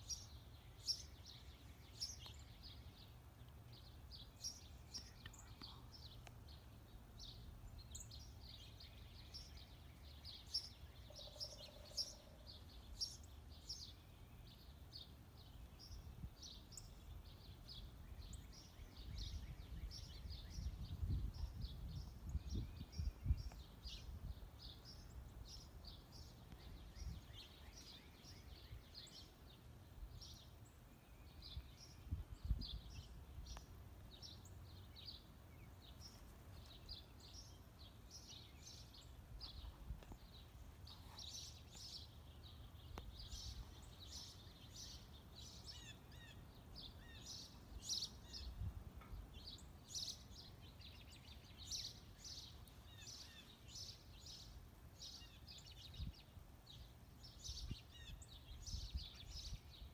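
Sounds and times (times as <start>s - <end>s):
small songbirds chirping: 0.0s - 59.9s.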